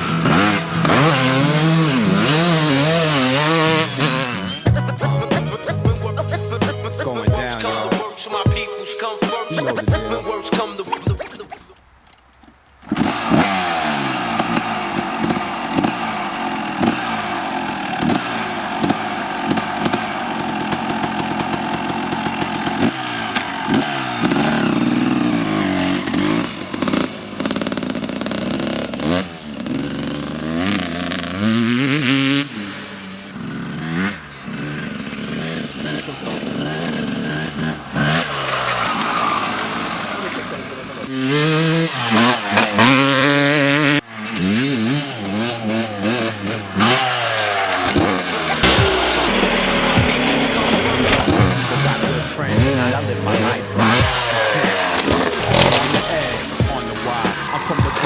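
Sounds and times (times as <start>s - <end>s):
motocross engine revving: 0.0s - 8.1s, 9.4s - 58.0s.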